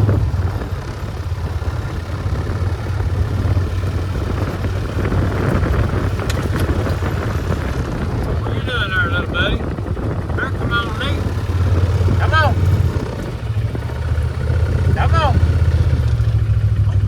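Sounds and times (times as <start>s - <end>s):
wind noise on microphone: 0.0s - 16.5s
vehicle engine running: 0.0s - 17.0s.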